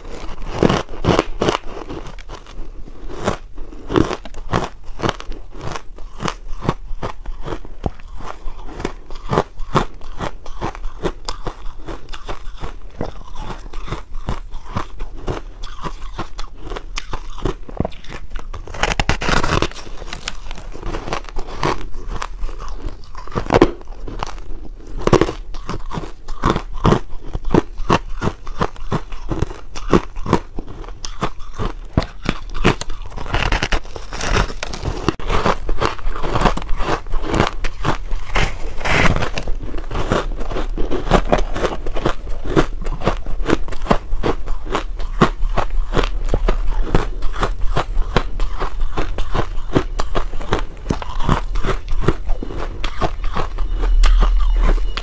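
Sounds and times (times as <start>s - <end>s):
crunchy biting and chewing: 0.0s - 55.0s.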